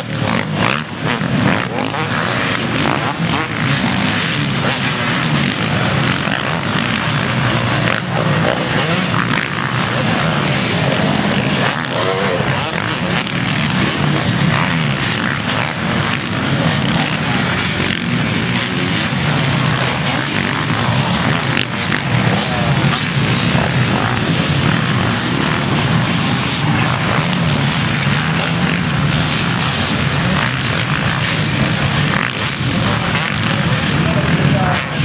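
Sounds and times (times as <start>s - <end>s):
motocross motorcycles revving: 0.0s - 35.0s.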